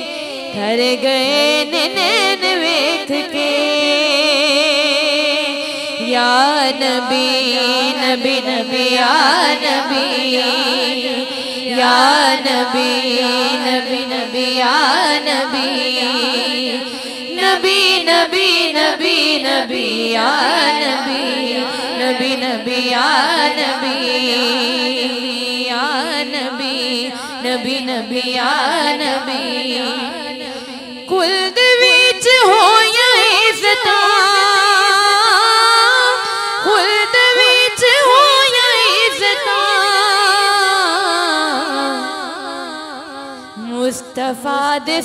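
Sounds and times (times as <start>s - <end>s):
woman singing wordlessly: 0.0s - 45.0s.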